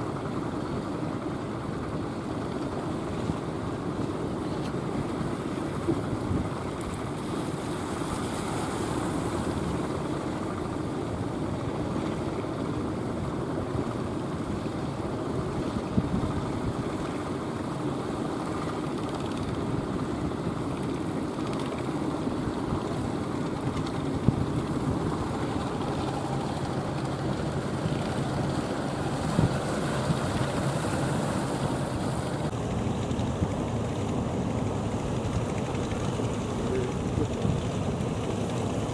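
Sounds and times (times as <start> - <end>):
boat engines running: 0.0 - 38.9
surging waves: 0.0 - 38.9
wind: 0.0 - 38.9.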